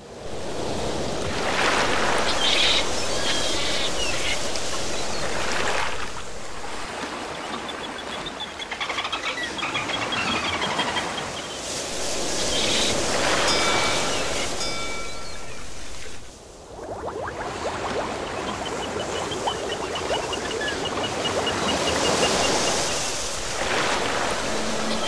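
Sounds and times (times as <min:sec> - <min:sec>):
ocean surf on beach: 0:00.0 - 0:25.0
bird calls: 0:01.8 - 0:16.3, 0:17.9 - 0:25.0.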